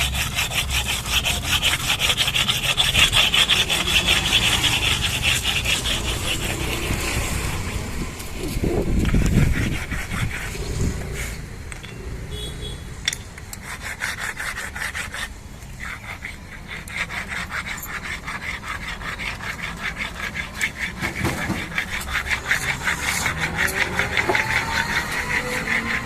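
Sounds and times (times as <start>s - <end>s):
abrasive rasping on metal: 0.0s - 11.4s, 13.5s - 26.0s.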